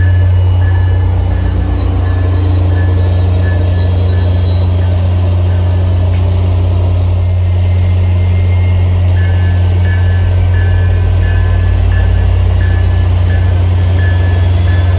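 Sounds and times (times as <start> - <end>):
diesel locomotive drone: 0.0 - 14.9.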